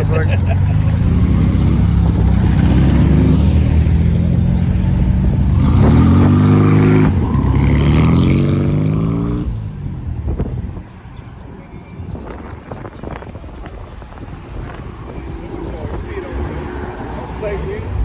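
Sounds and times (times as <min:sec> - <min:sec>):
car engine revving: 0:00.0 - 0:11.1, 0:12.2 - 0:18.0.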